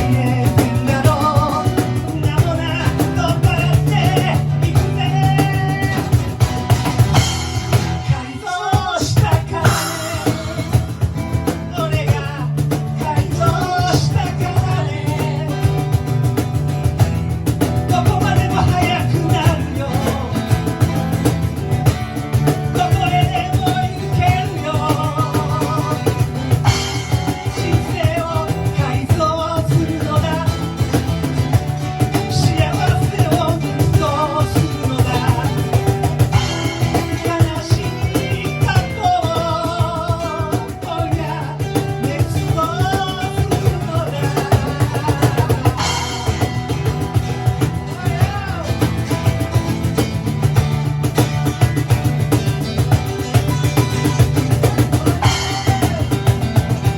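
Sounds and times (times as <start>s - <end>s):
drum kit beat: 0.0s - 56.9s
guitar: 0.0s - 56.9s.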